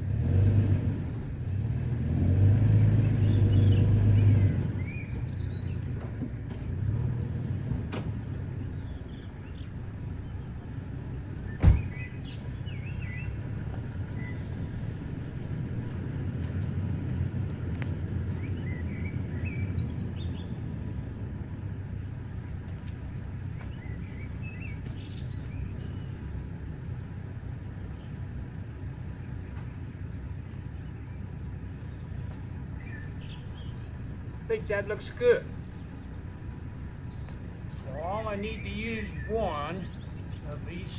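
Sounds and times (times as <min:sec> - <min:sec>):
pickup truck engine running: 0:00.0 - 0:40.9
birds chirping: 0:02.6 - 0:40.9.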